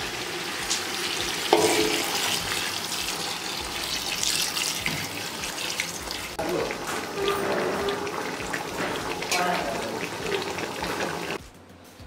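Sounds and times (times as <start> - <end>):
water pouring into metal pot: 0.0 - 11.4
water splash: 1.5 - 11.4.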